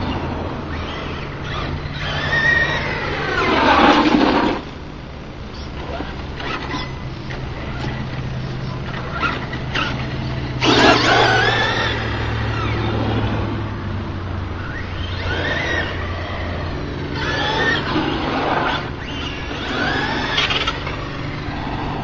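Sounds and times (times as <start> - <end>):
electric motor whining: 0.0 - 22.0
steady low hum: 0.0 - 22.0.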